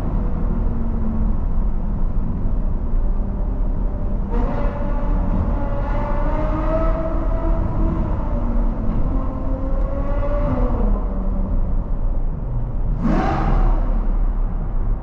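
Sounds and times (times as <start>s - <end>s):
car engine and exhaust: 0.0s - 15.0s.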